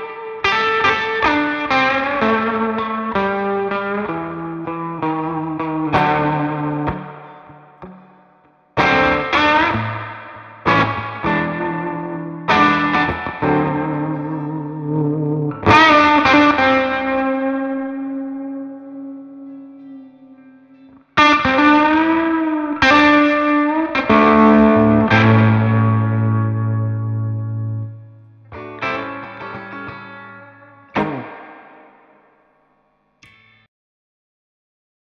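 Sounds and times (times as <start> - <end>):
electric guitar chords and notes: 0.0 - 33.6.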